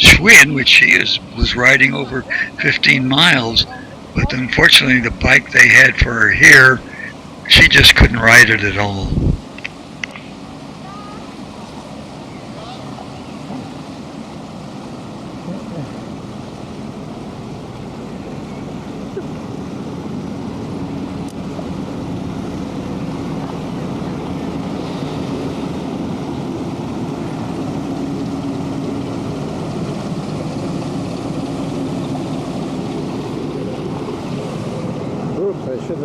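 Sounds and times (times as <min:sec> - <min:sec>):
engine hum: 0:00.0 - 0:36.0
noisy background: 0:00.0 - 0:36.0.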